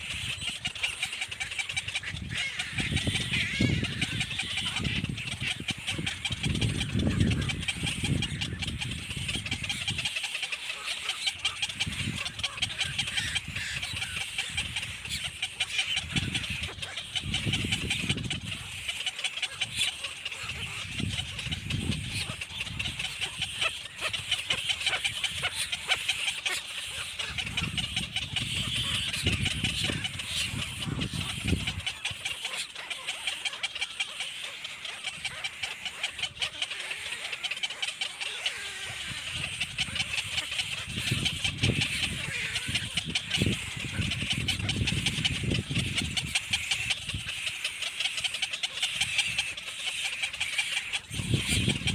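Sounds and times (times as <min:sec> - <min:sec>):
baby birds chirping: 0:00.0 - 0:51.9.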